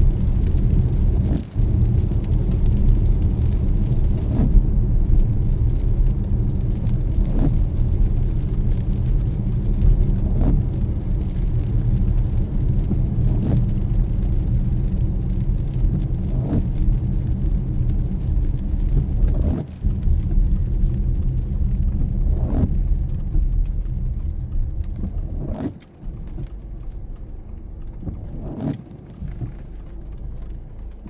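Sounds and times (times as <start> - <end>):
tyres and engine rumble: 0.0 - 31.0
windscreen wipers swishing: 0.0 - 31.0.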